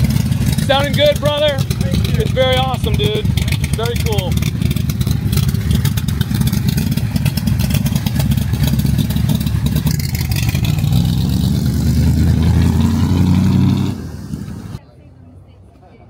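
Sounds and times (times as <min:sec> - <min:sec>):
car engine revving: 0:00.0 - 0:14.8.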